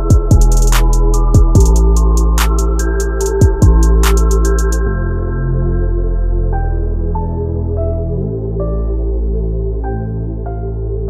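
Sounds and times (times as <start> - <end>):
calm ambient synth music: 0.0 - 11.0.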